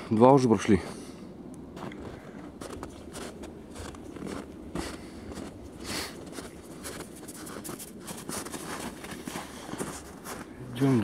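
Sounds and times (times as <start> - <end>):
footsteps crunching in snow: 1.7 - 11.0.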